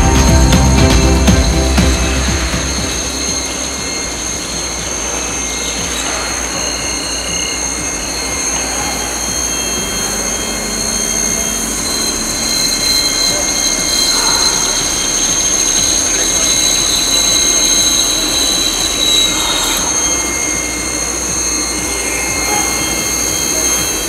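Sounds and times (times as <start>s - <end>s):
high whining machine tones: 0.0s - 24.0s.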